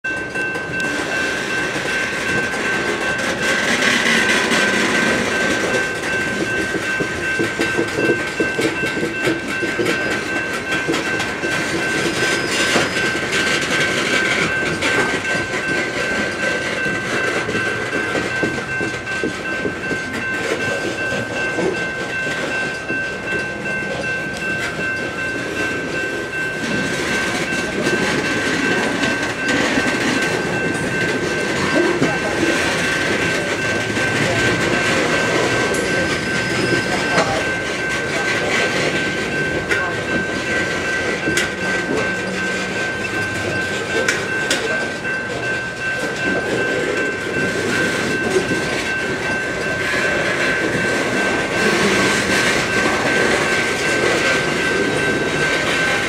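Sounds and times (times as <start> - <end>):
crossing bell ringing: 0.0 - 56.0
train wheels clattering over rails: 0.1 - 56.0.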